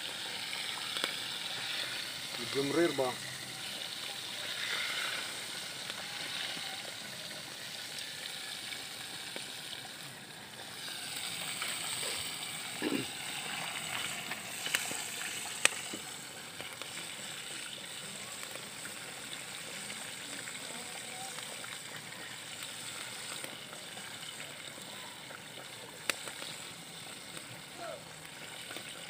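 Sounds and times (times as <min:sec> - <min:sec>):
meat frying in hot oil: 0:00.0 - 0:29.0.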